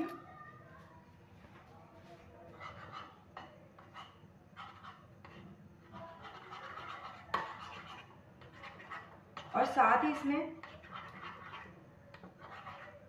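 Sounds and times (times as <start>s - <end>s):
spoon scraping a pan: 2.5s - 13.0s.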